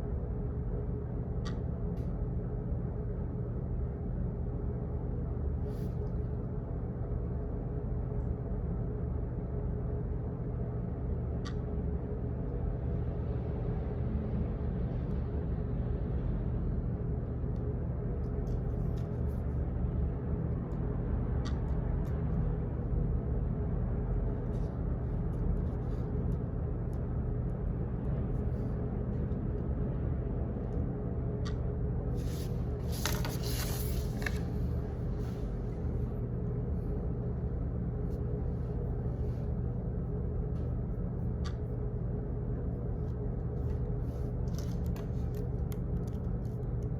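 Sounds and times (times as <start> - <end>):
low hum and rumble: 0.0 - 46.9.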